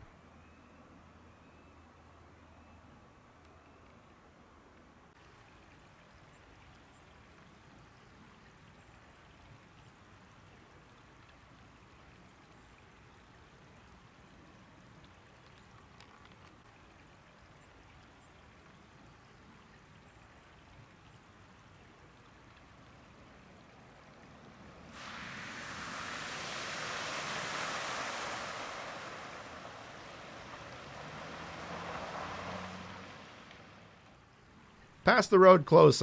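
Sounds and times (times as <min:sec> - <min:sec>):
faint flowing floodwater: 0:00.0 - 0:36.0.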